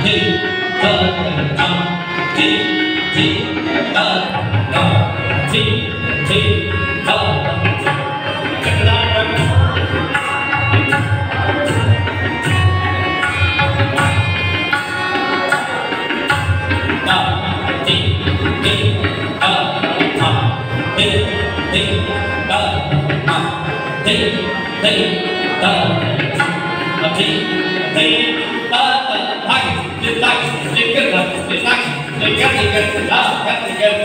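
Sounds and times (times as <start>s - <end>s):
tabla playing rhythm: 0.0s - 34.0s.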